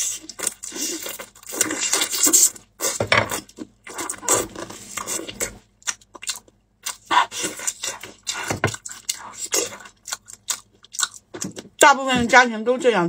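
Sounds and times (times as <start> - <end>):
chewing and sucking: 0.0 - 11.3.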